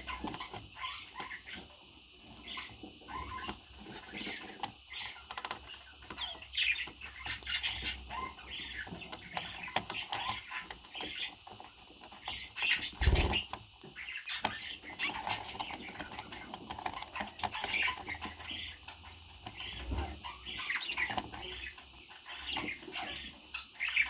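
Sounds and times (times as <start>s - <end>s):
parrot chirping and chattering: 0.0s - 24.0s.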